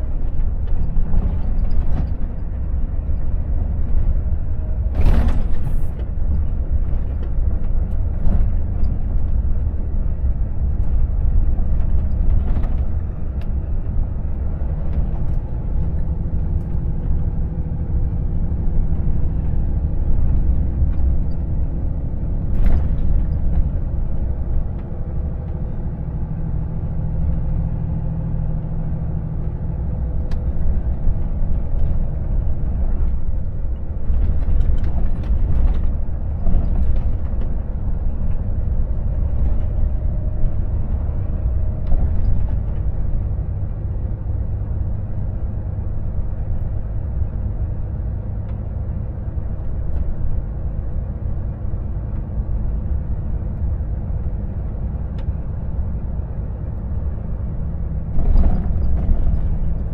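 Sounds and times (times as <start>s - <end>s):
tyre and road rumble: 0.0s - 59.9s.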